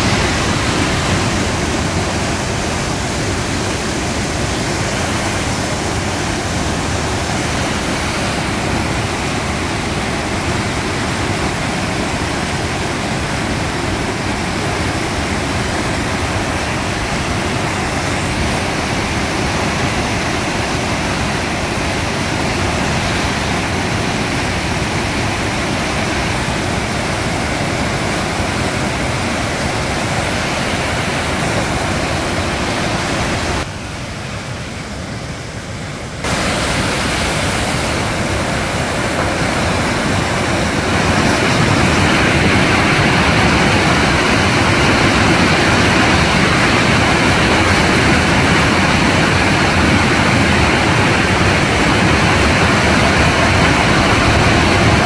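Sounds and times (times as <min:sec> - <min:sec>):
river rushing through rapids: 0:00.0 - 0:55.0.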